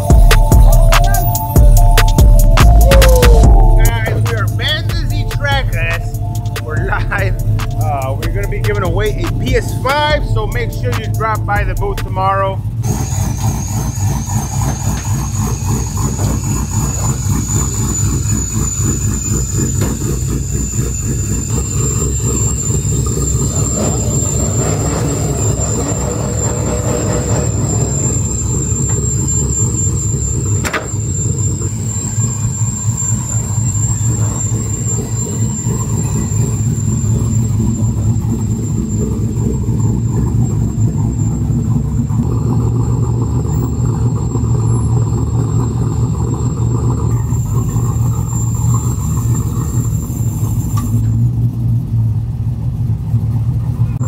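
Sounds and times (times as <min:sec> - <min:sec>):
high-pitched whine: 0:00.0 - 0:51.8
low engine rumble: 0:00.0 - 0:54.0.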